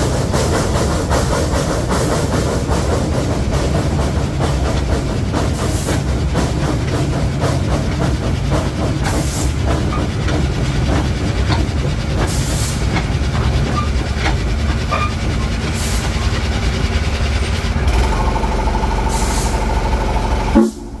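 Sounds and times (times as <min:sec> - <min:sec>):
track clicks and knocks: 0:00.0 - 0:21.0
train rumbling on track: 0:00.0 - 0:21.0.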